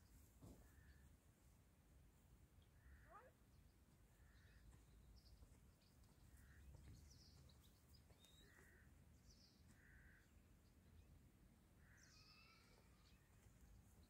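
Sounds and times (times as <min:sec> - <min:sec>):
faint distant bird calls: 0:02.6 - 0:14.0.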